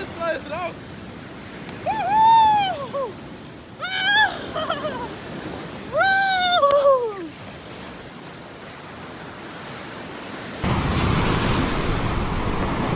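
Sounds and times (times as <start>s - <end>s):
loud rush of wind or surf: 0.0s - 7.3s, 8.8s - 12.9s
sea surf washing on shore: 0.0s - 12.9s.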